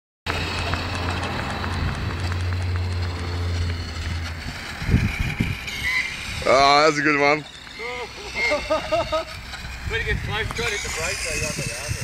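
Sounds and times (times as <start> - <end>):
toy motorbike motor whining: 0.3 - 12.0.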